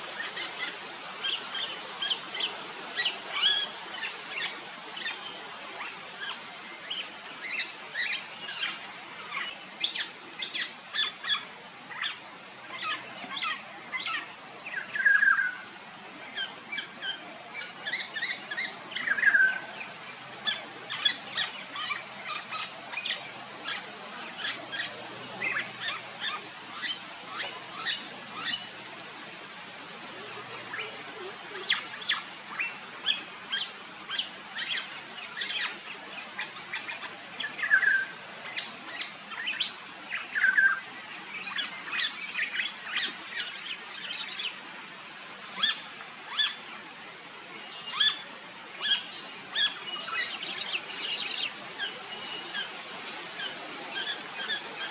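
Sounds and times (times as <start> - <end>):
birds chirping: 0.0 - 29.4, 30.0 - 44.6, 45.5 - 54.9.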